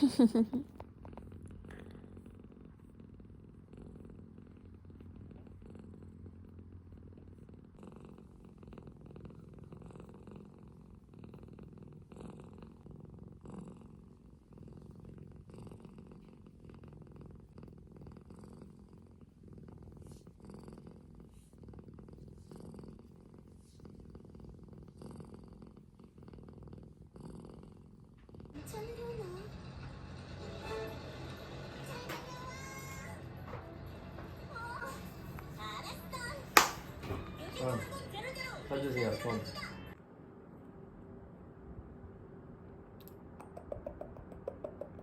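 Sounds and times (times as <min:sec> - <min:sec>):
kitten purring: 0:00.0 - 0:40.0, 0:43.0 - 0:45.0.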